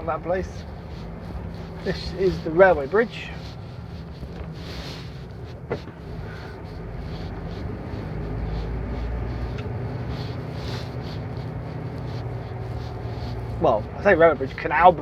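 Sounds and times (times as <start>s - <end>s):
diesel engine running: 0.0s - 15.0s
road noise: 0.0s - 15.0s.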